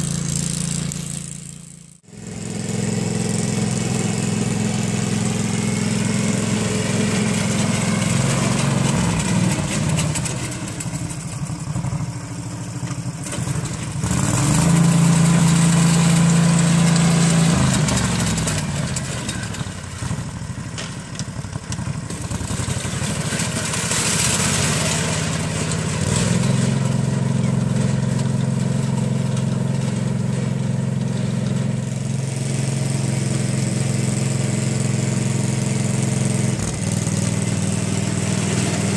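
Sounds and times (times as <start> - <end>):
two-wheel tractor engine running: 0.0 - 38.9.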